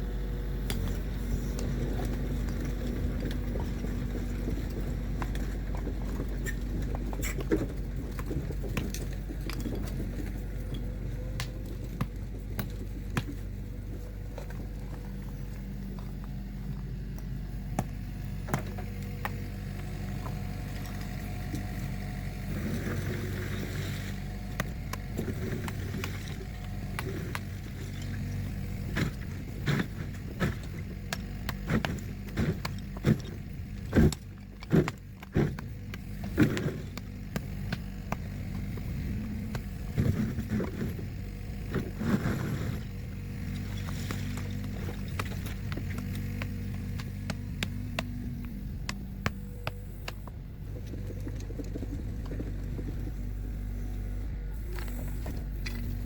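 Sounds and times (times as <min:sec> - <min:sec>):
engine running low: 0:00.0 - 0:56.0.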